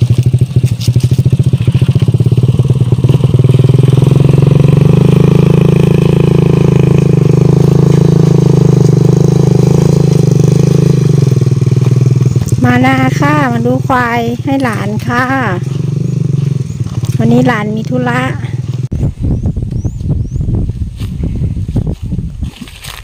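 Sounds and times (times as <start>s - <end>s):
small motorcycle engine running: 0.0s - 21.7s.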